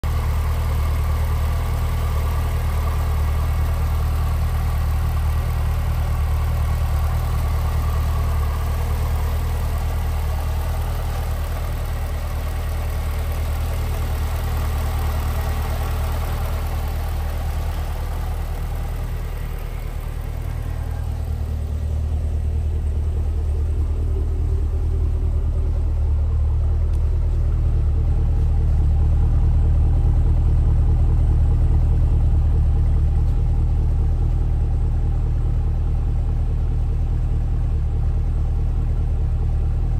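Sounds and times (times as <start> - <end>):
car engine idling: 0.0 - 39.9
low exhaust rumble: 0.0 - 39.9.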